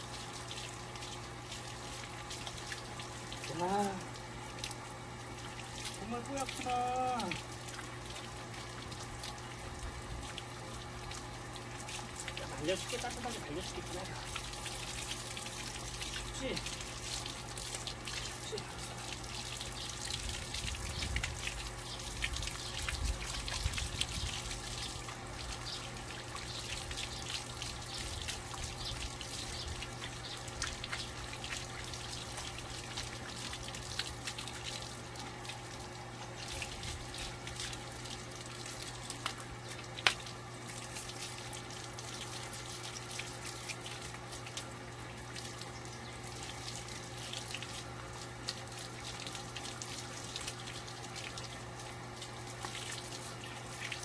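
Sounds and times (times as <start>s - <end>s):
low steady hum: 0.0s - 54.0s
water running from hose: 0.0s - 54.0s.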